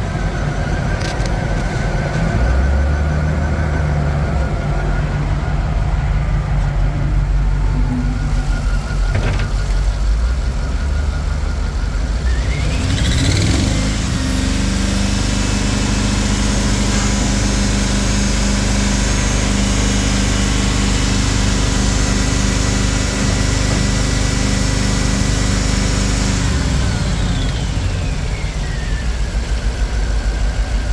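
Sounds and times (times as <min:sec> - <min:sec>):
engine idling: 0:00.0 - 0:30.9.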